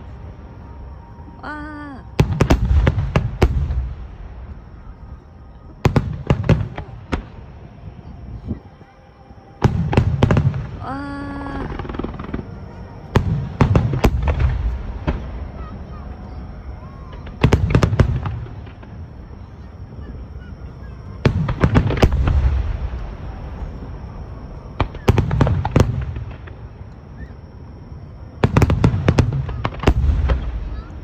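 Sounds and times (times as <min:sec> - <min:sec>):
fireworks bangs: 0:00.0 - 0:31.0
low rumble of fireworks: 0:00.0 - 0:31.0.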